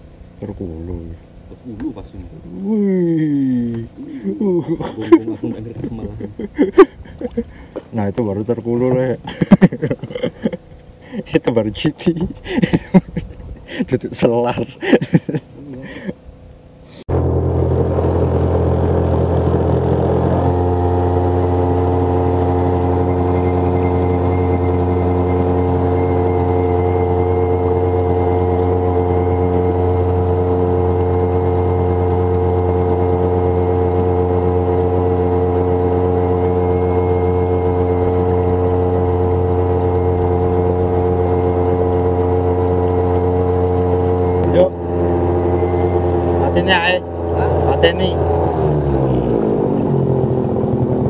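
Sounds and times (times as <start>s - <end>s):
insects buzzing: 0.0s - 51.0s
small boat engine running: 0.0s - 51.0s.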